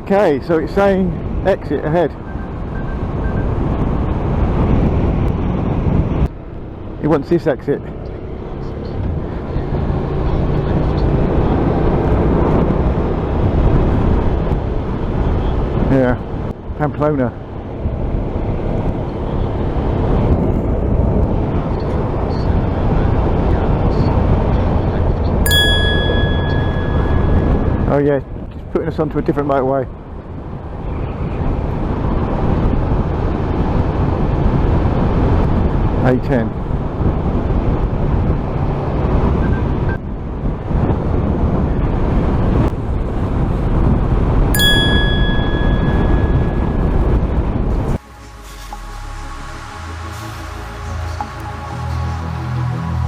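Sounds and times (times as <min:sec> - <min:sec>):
motorcycle engine and road noise: 0:00.0 - 0:53.0
wind rush: 0:02.2 - 0:07.0, 0:09.0 - 0:16.8, 0:17.4 - 0:28.7, 0:29.8 - 0:53.0.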